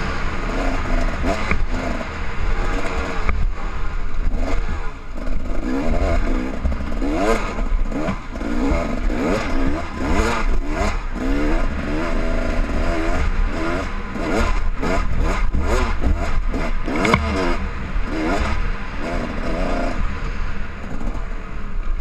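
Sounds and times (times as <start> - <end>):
low wind rumble: 0.0 - 22.0
motorcycle engine revving: 0.0 - 22.0
motorcycle rattling over bumps: 0.0 - 22.0.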